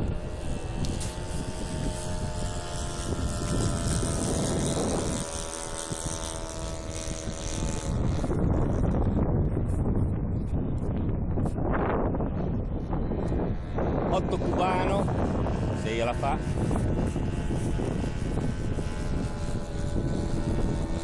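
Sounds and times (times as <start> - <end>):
model plane engine droning: 0.0 - 21.0
wind noise on microphone: 0.0 - 21.0.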